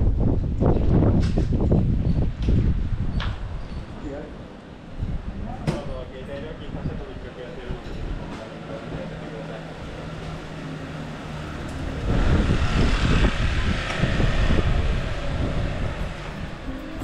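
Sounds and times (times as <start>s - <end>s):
passing vehicle rumble and hiss: 0.0s - 17.0s
street ambience: 0.0s - 17.0s.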